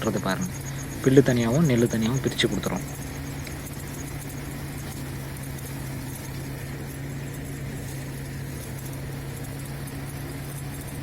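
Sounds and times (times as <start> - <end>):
threshing machine humming: 0.0 - 11.0.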